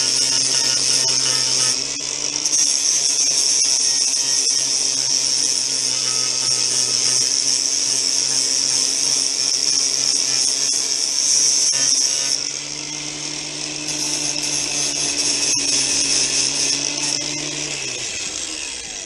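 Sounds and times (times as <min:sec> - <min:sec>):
power grinder grinding plastic: 0:00.0 - 0:19.0.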